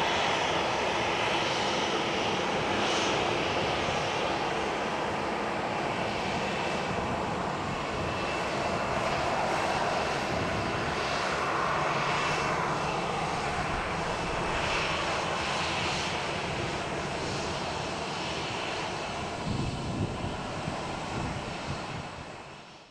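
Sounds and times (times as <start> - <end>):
jet engine rumble with whine: 0.0 - 22.9.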